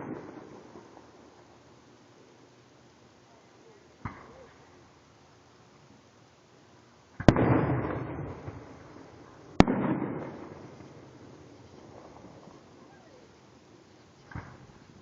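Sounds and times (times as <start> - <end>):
crackling rumble: 0.0 - 15.0
fireworks bursting: 0.0 - 15.0.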